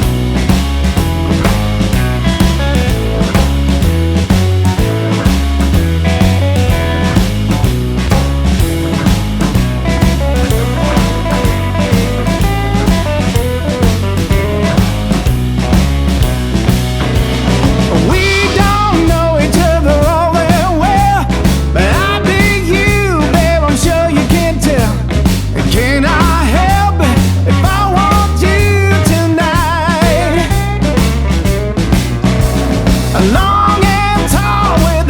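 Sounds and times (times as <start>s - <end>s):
rock song with singing: 0.0s - 35.0s.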